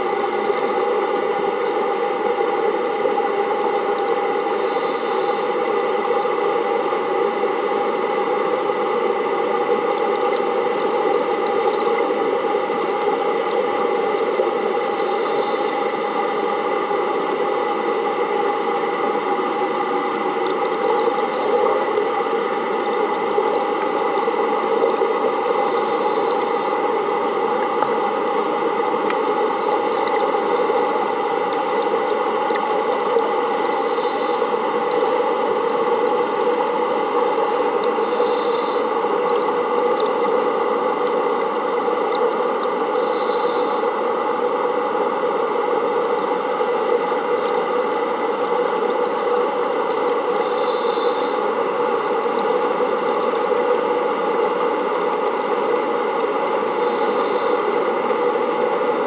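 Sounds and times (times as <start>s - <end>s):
underwater pump hum: 0.0s - 59.0s.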